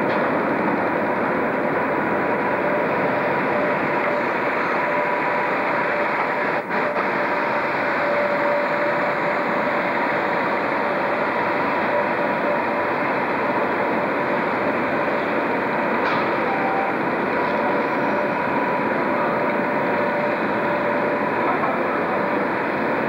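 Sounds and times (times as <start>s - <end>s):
faint steady whines: 0.0s - 23.0s
locomotive machinery hum and rumble: 0.0s - 23.0s.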